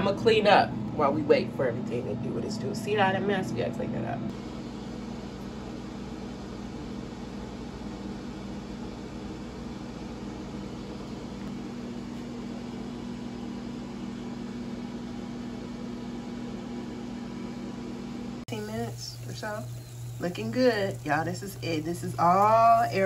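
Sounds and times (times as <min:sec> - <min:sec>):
air fryer fan hum: 0:00.0 - 0:23.0.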